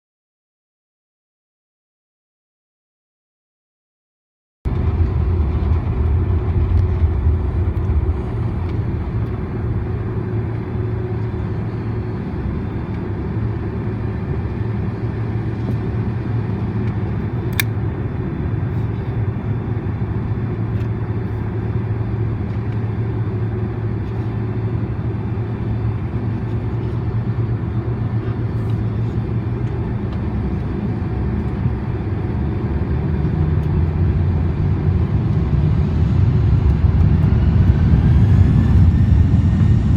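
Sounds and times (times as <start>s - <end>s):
airplane cabin engine rumble: 4.7s - 39.9s.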